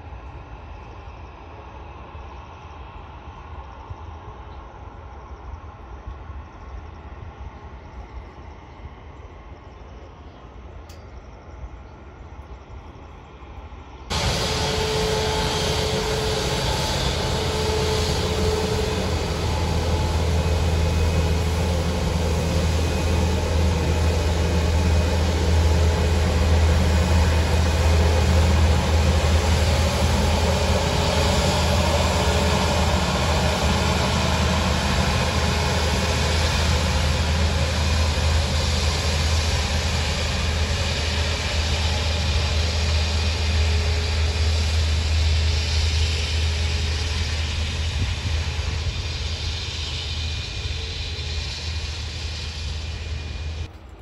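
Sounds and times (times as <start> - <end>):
jet engines idling: 10.4 - 54.0.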